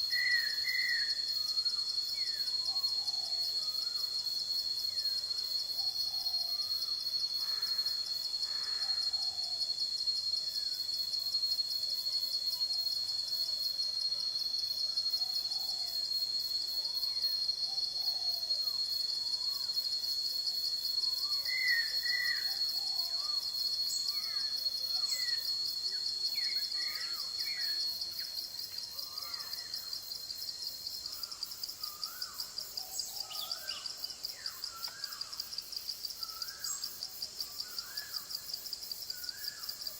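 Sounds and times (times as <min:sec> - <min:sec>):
insect chorus droning: 0:00.0 - 0:39.9.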